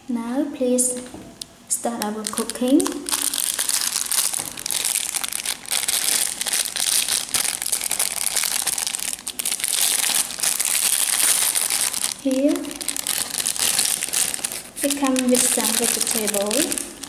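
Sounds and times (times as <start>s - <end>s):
plastic bag crinkling: 1.8s - 17.0s.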